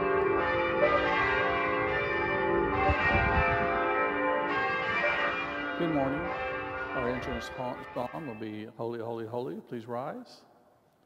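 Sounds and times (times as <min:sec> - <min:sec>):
church bells ringing: 0:00.0 - 0:09.6.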